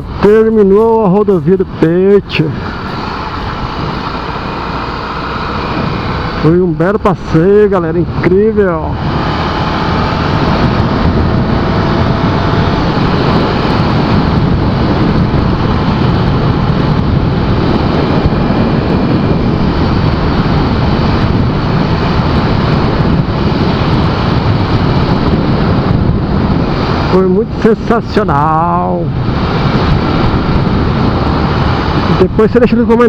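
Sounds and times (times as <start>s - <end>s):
motorcycle engine running: 0.0s - 27.7s, 28.4s - 32.5s
wind rushing over microphone: 0.0s - 33.0s.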